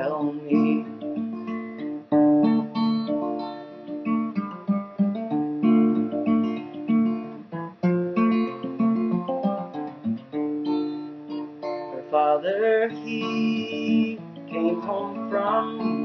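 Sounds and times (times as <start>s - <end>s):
acoustic guitar picking and strumming: 0.0s - 16.0s.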